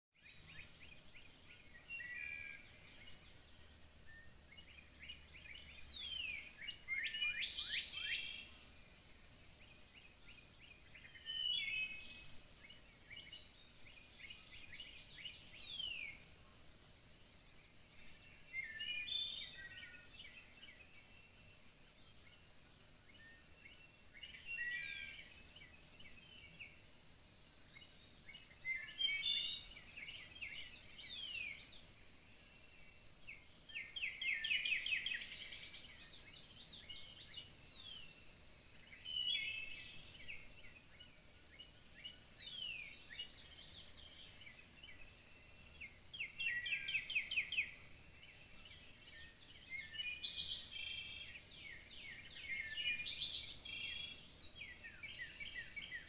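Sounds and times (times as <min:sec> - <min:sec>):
faint steady hiss: 0:00.2 - 0:56.0
songbirds chirping and trilling: 0:00.2 - 0:56.0.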